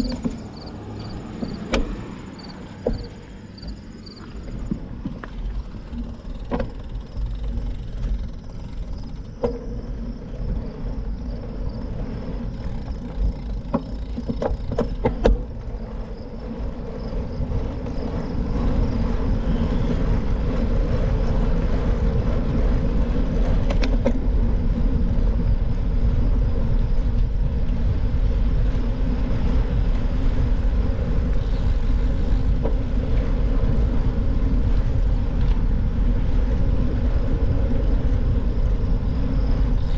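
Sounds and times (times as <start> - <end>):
bicycle road rumble: 0.0 - 39.9
wind rushing over microphone: 0.0 - 39.9.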